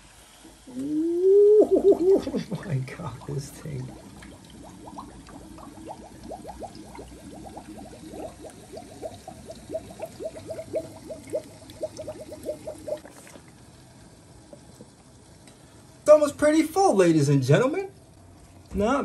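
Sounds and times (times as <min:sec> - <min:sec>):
coolant gurgling and bubbling: 0:00.4 - 0:16.1.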